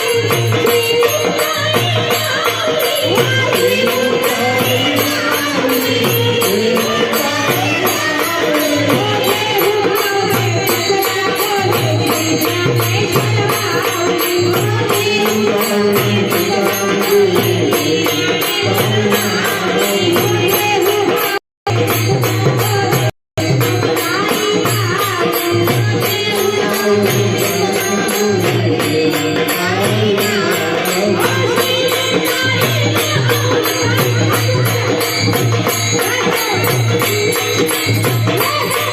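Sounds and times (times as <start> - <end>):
rhythmic percussion: 0.0 - 38.9
woman singing devotional song: 0.0 - 38.9.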